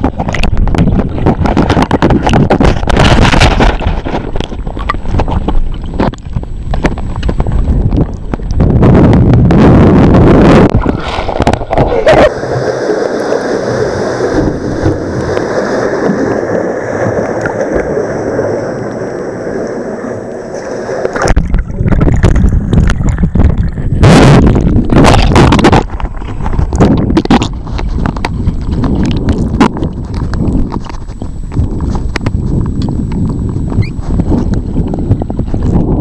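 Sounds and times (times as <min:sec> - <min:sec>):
muffled underwater water churning: 0:00.0 - 0:36.0.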